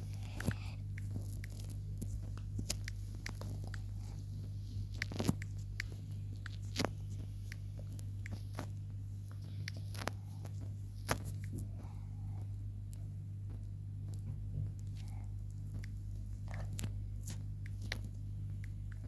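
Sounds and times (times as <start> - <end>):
steady low hum: 0.0 - 19.0
scattered clicks and taps: 0.2 - 11.8, 12.4 - 19.0.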